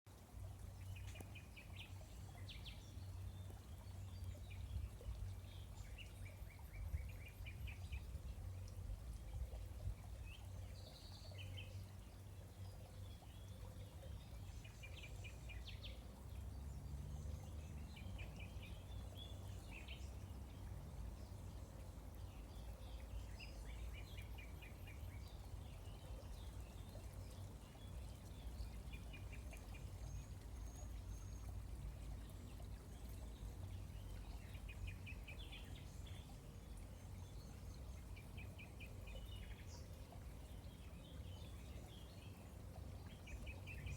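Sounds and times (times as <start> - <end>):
running water rushing: 0.1 - 43.9.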